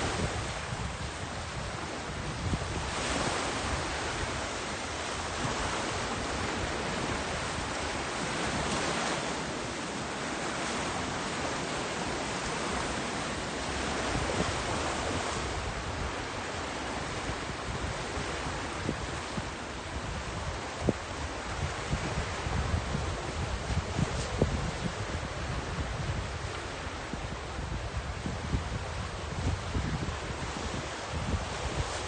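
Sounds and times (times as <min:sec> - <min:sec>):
small waves washing on shore: 0:00.0 - 0:32.0.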